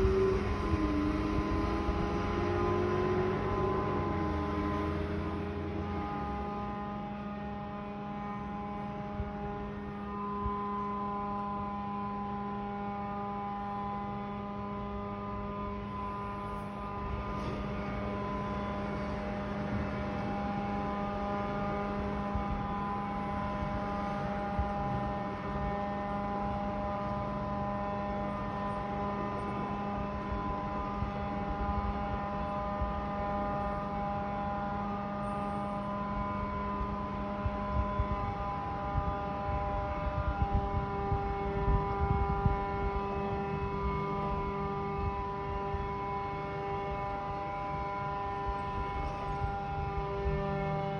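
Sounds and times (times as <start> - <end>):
low droning hum: 0.0 - 50.9.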